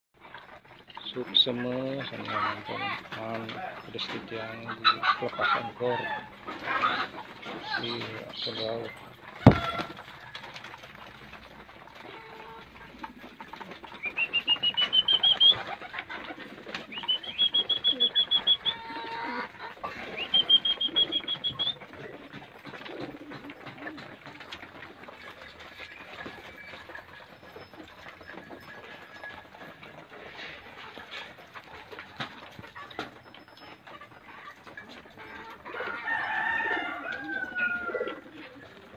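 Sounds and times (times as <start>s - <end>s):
pigeons pecking clicks: 6.3s - 38.9s.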